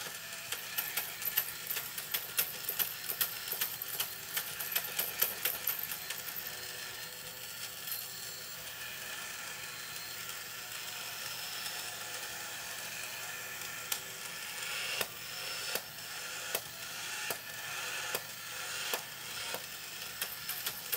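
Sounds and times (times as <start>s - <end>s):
toy motor whirring: 0.0s - 20.9s.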